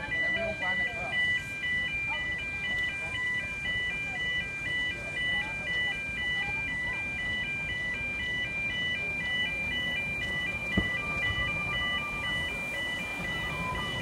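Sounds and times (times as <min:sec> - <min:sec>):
two-tone warning alarm: 0:00.0 - 0:14.0.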